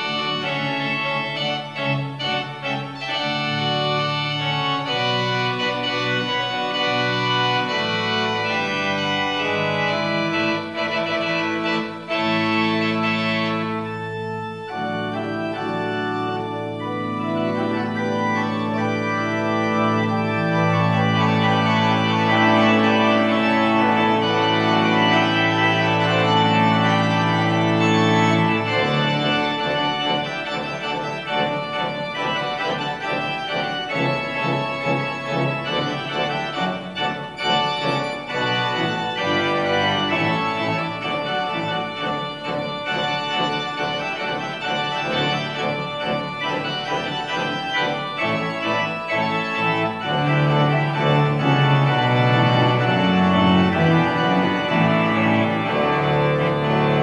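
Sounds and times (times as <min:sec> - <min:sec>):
organ playing slow chords: 0:00.0 - 0:57.0.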